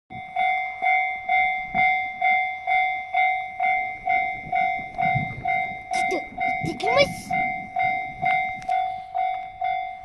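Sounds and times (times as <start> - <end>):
level crossing warning bell ringing: 0.1 - 10.0.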